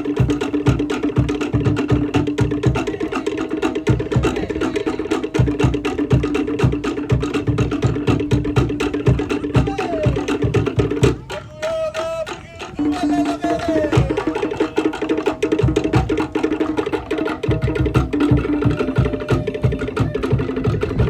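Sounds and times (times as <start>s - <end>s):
deep bass drum beats: 0.0s - 21.0s
wooden slit drums: 0.0s - 21.0s.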